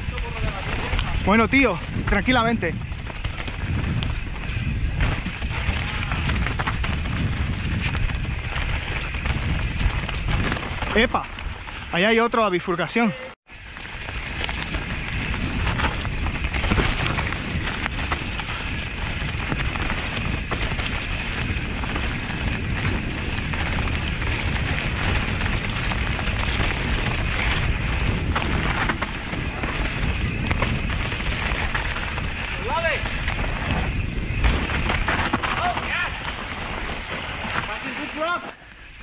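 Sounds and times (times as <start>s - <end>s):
bike knocking and rattling: 0.0s - 12.4s, 13.5s - 39.0s
bike tyres crunching over leaves: 0.0s - 39.0s.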